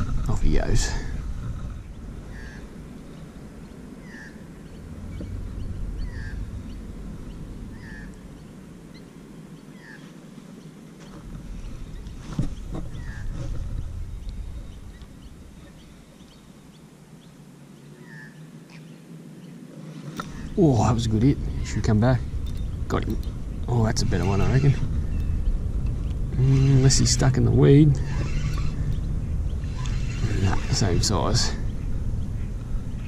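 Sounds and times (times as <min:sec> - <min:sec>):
low rumble: 0:00.0 - 0:09.9, 0:11.2 - 0:17.4, 0:20.2 - 0:33.0.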